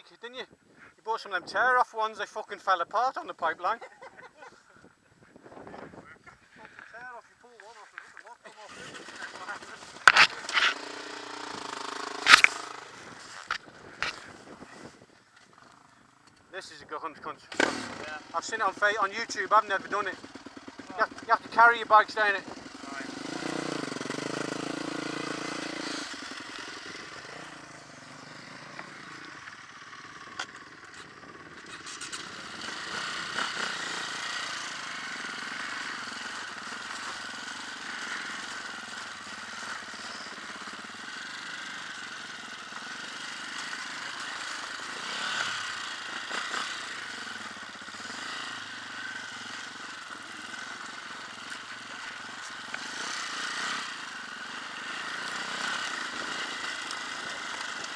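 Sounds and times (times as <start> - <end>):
dirt bike engine running: 8.2 - 14.8, 17.4 - 57.9.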